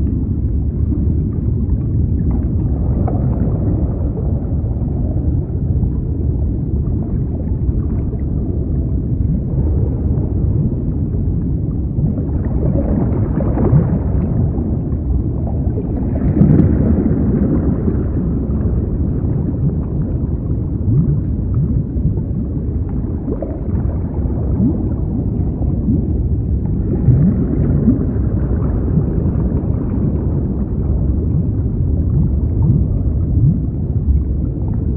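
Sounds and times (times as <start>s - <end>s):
bubbles gurgling: 0.0s - 34.9s
underwater rumbling wash: 0.0s - 34.9s.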